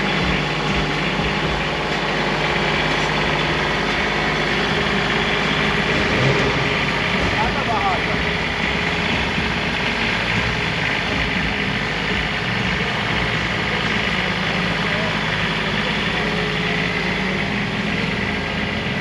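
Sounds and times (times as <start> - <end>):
car engines idling: 0.0 - 19.0
crowd chatter: 0.0 - 19.0.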